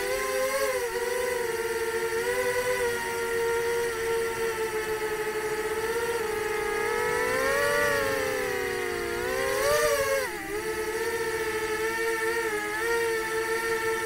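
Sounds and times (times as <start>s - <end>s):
quadcopter motors and propellers whining: 0.0s - 14.0s.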